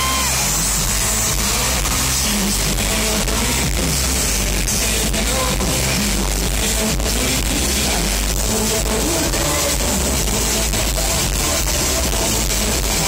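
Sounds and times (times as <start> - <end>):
live band amplified music: 0.0 - 13.0.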